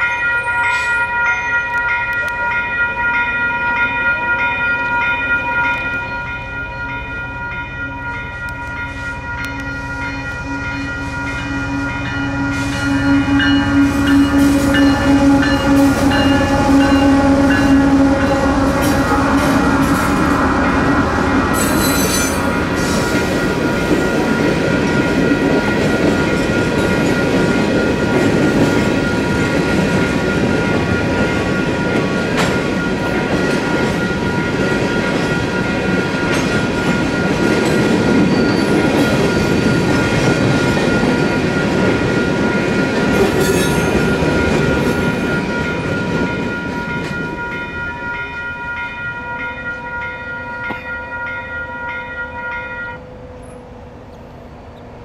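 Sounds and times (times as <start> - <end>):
crossing bell ringing: 0.0 - 55.0.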